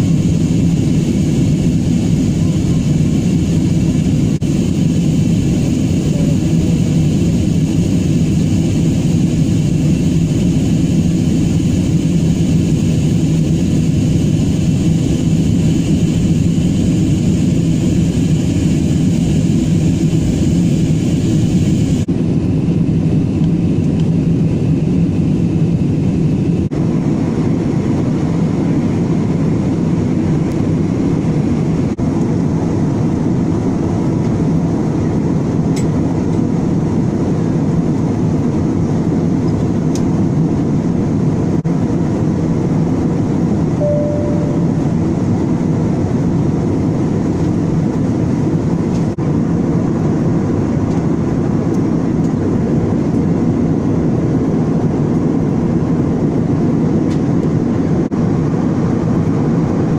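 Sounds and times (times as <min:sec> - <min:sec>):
jet airliner cabin noise: 0:00.0 - 0:59.9.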